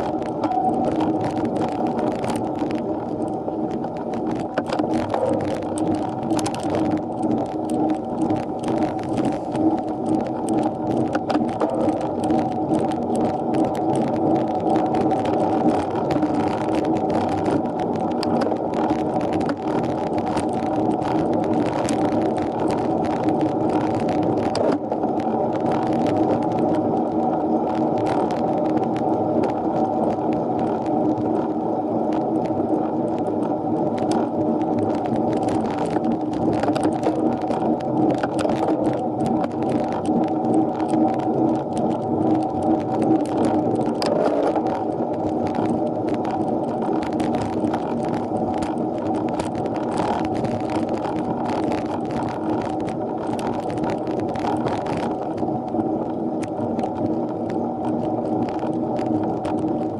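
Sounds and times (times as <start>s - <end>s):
muffled bicycle riding noise: 0.0s - 59.9s
small clicks: 0.0s - 59.9s.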